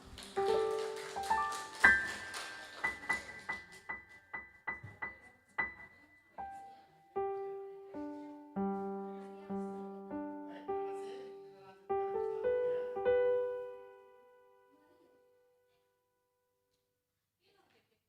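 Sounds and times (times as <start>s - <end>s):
piano notes and chords: 0.0s - 15.6s.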